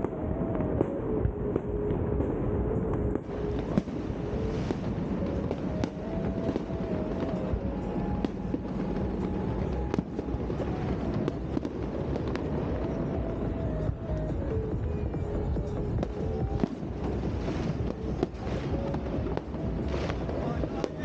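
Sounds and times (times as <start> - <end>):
fireworks bangs and crackles: 0.0 - 21.0
low rumble: 0.0 - 21.0.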